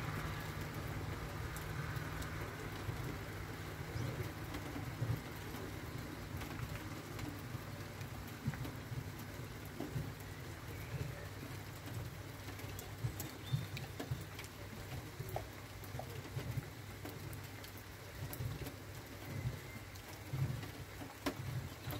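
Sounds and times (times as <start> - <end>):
close raindrops pattering: 0.0 - 21.9
steady rain falling: 0.0 - 21.9.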